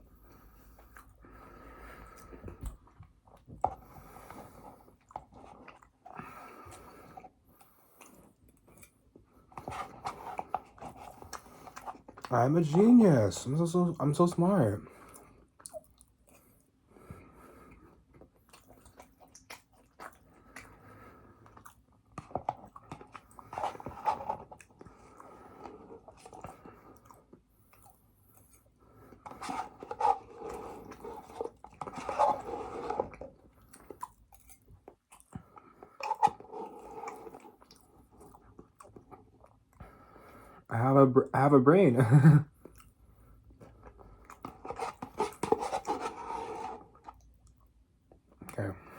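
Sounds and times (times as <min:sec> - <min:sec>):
person chewing food: 0:00.0 - 0:13.0, 0:14.9 - 0:40.7, 0:42.5 - 0:48.9.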